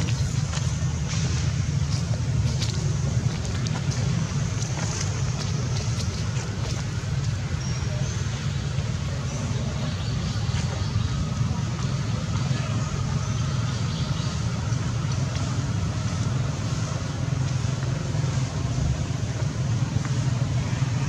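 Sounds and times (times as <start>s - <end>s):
low vehicle engine rumble: 0.0s - 21.0s.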